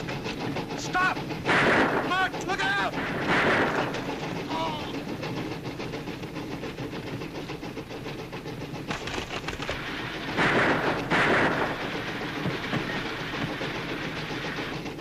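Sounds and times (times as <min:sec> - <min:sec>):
train wheels clickety-clack: 0:00.0 - 0:15.0.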